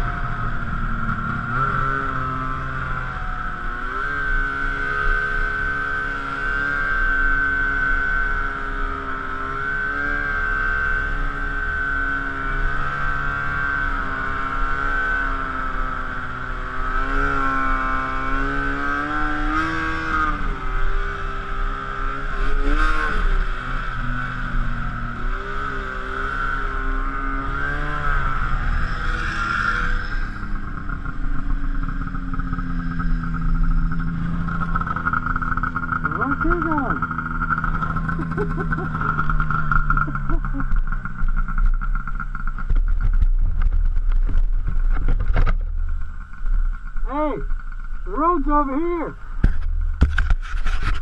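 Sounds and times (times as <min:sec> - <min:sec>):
snowmobile engine running: 0:00.0 - 0:51.0.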